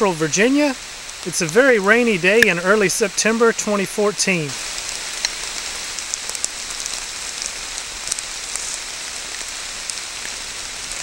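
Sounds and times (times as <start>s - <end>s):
rain falling steadily: 0.0s - 11.0s
raindrops ticking close by: 0.0s - 11.0s.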